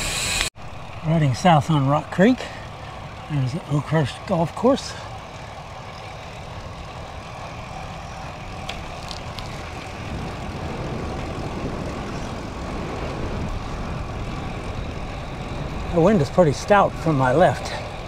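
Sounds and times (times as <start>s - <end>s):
wind buffeting microphone: 0.8s - 18.0s.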